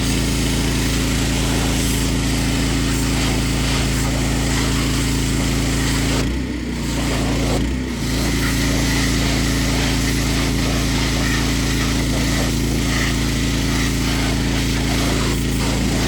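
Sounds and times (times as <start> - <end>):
high-pressure water spray hissing: 0.0 - 16.0
small petrol engine running: 0.0 - 16.0.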